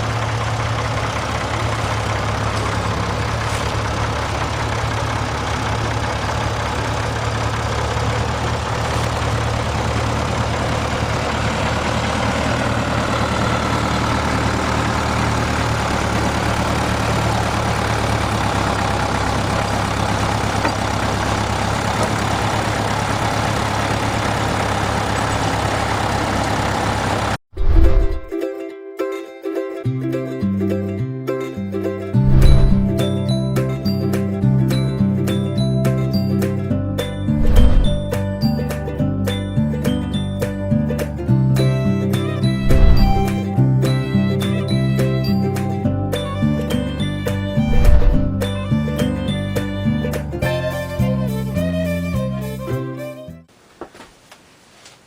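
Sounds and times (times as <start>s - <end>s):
sawmill engine running: 0.0s - 28.3s, 32.2s - 52.6s.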